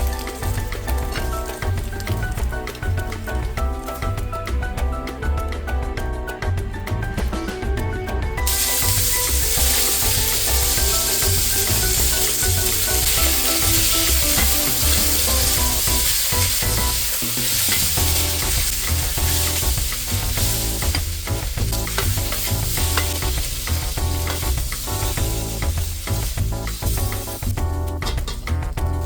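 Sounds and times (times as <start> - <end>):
noodles sizzling in a pan: 0.0 - 4.8, 8.4 - 28.4
background music: 0.0 - 29.0.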